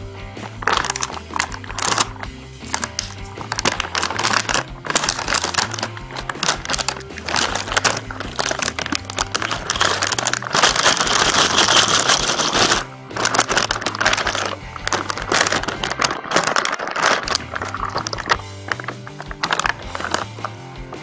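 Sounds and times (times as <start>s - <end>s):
background music with bass line: 0.0s - 21.0s
snack bag crinkling: 0.4s - 21.0s.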